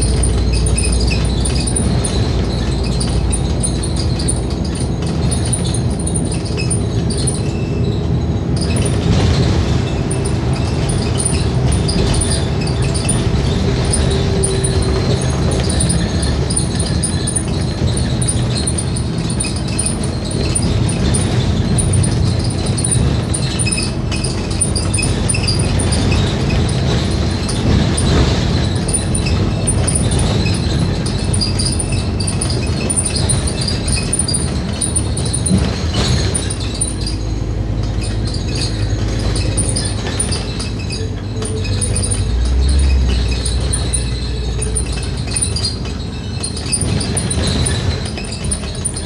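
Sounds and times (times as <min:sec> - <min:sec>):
bus engine and road rumble: 0:00.0 - 0:49.0
interior fittings rattling: 0:00.0 - 0:49.0.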